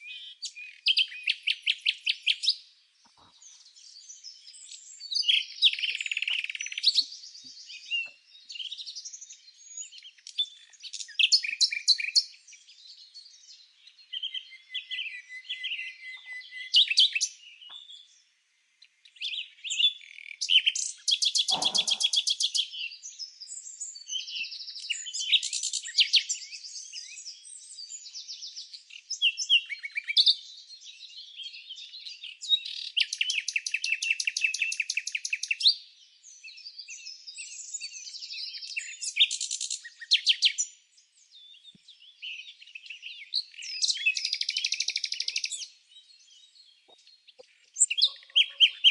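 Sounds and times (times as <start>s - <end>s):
songbirds chirping and singing: 0.0s - 48.9s.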